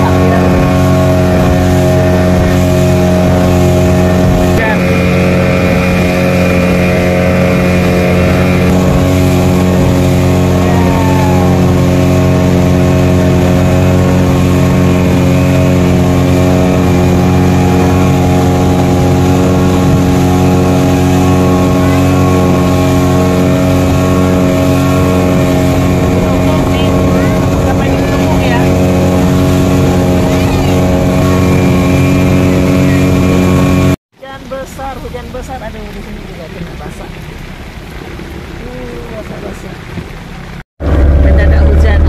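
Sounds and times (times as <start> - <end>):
outboard engine drone: 0.0 - 42.0
water rushing past hull: 0.0 - 42.0.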